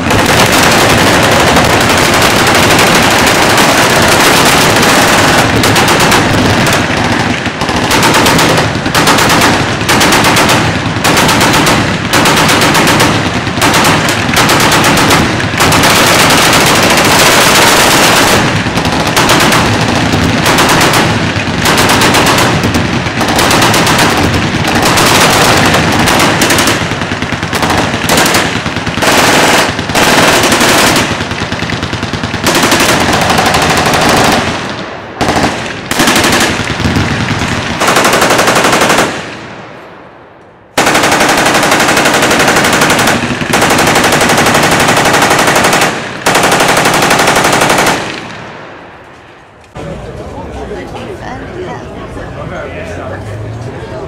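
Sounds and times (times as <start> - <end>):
machine guns firing bursts: 0.0 - 39.6, 40.7 - 48.5.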